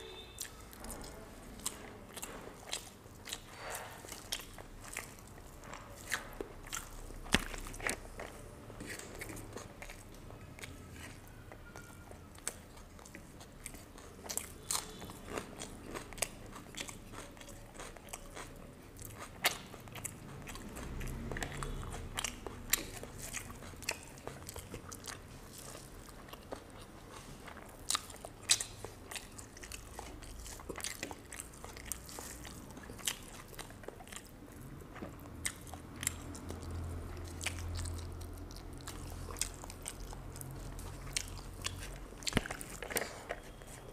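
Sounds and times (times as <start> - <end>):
chewing and crunching fried fish: 0.0 - 43.9.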